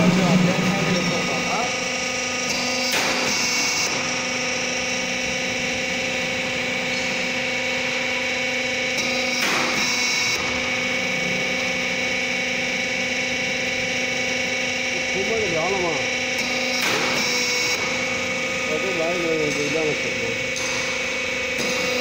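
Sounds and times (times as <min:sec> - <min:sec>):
roll forming machine humming: 0:00.0 - 0:22.0.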